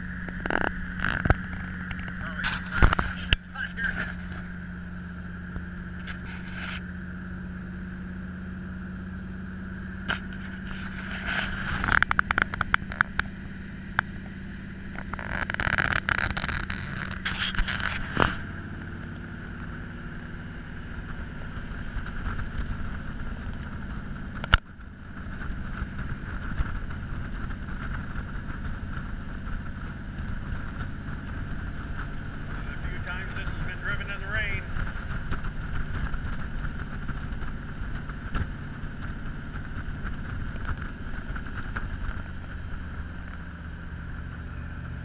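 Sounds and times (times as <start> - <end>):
wind buffeting and crackling: 0.0 - 7.1, 9.9 - 45.0
car engine running: 0.0 - 45.0.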